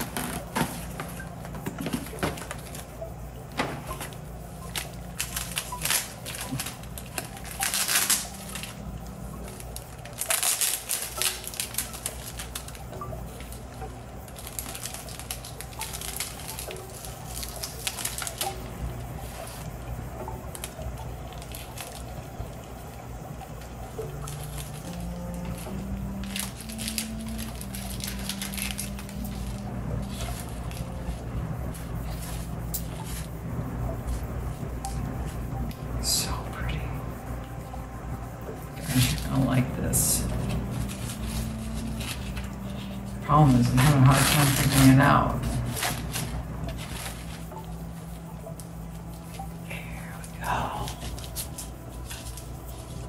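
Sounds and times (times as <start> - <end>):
plastic and paper wrapping crinkling: 0.0 - 36.8, 38.4 - 53.0
low steady hum: 0.0 - 53.0.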